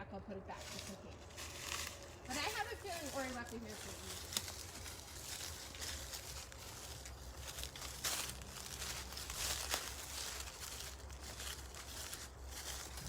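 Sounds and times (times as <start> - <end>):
rustling and crunching: 0.5 - 13.0.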